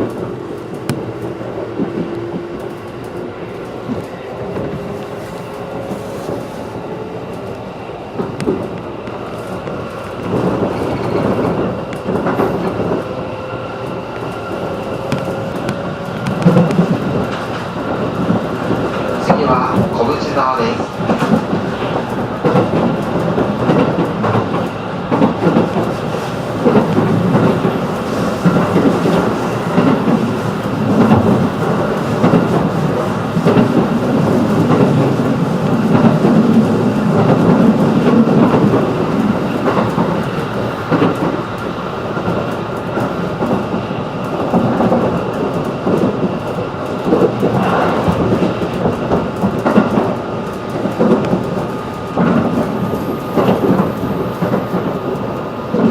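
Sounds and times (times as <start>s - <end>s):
train clatter: 0.0s - 55.9s
train wheels rumbling on rail: 0.0s - 55.9s.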